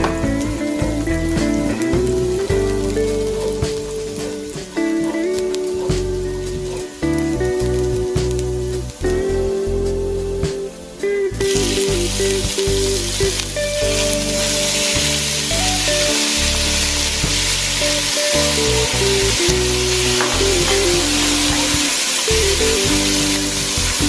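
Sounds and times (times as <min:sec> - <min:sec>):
meat sizzling in hot oil: 0:00.0 - 0:09.2, 0:11.3 - 0:24.0.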